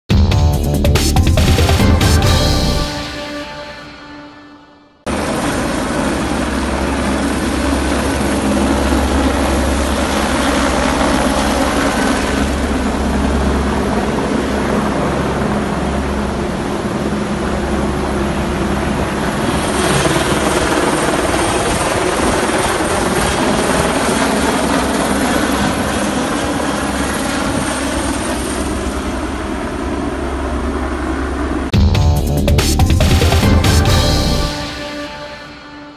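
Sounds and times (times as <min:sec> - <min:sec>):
helicopter rotor beating: 0:00.1 - 0:03.6, 0:05.1 - 0:35.8.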